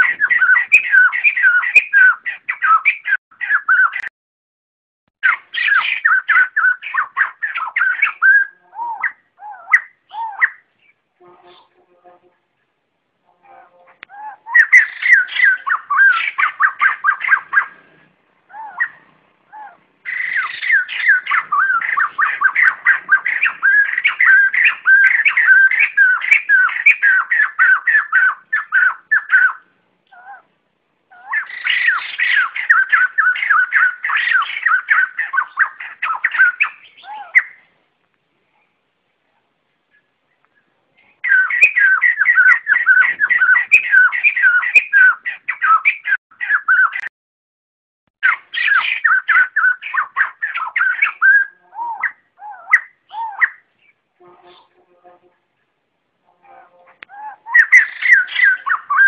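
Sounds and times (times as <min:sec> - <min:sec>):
birds chattering: 0:00.0 - 0:04.1, 0:05.2 - 0:11.9, 0:13.5 - 0:37.8, 0:39.8 - 0:47.1, 0:48.2 - 0:54.9, 0:56.4 - 0:59.0.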